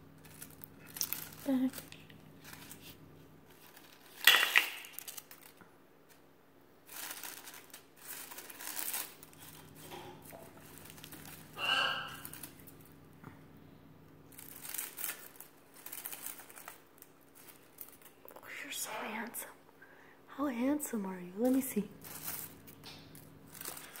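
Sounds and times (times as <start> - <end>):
dry petals crinkling and tearing: 0.0 - 6.2, 6.8 - 13.5, 14.1 - 19.4, 21.3 - 24.0.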